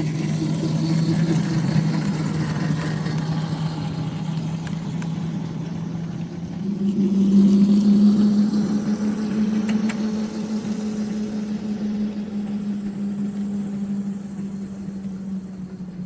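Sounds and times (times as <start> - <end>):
small locomotive engine drone: 0.0 - 16.0.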